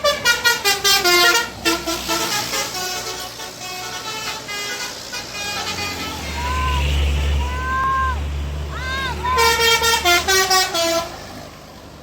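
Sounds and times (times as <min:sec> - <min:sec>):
bus horn playing tune: 0:00.0 - 0:08.0, 0:08.8 - 0:11.4.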